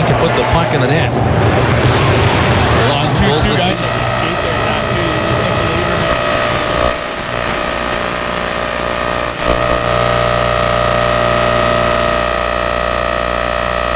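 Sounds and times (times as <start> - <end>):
radio static buzzing hum: 0.0 - 13.9.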